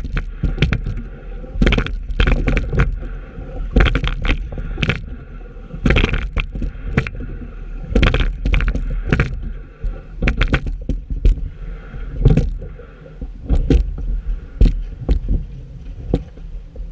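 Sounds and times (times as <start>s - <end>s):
oars knocking in oarlocks: 0.0s - 11.6s, 12.2s - 16.9s
low rumble: 0.0s - 16.9s.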